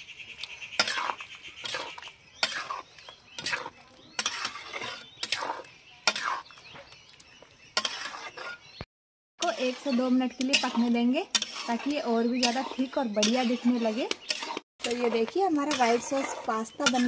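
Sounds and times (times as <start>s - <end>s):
metal spatula scraping metal pan: 0.7s - 6.8s, 7.6s - 8.8s, 9.4s - 17.0s.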